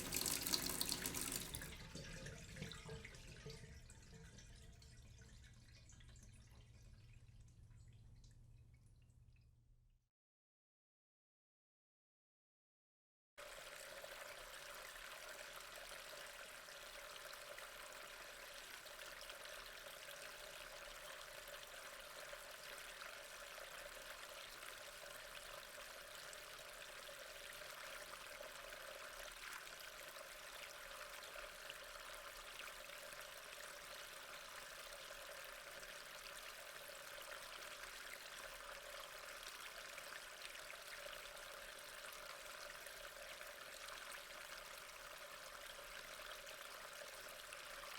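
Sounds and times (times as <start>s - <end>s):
water flowing steadily: 0.0s - 8.8s, 13.4s - 47.9s.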